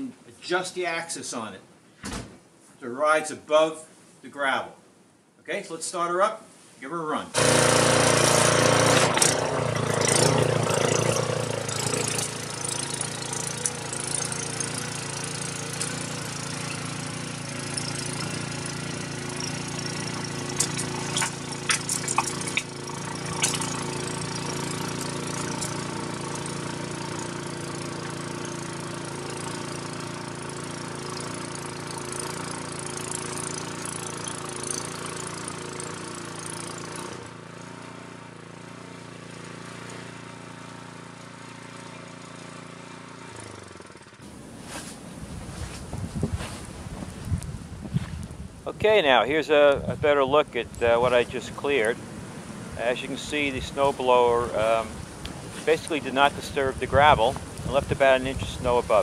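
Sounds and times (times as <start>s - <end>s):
snowblower engine running: 7.4s - 48.4s, 50.7s - 59.0s.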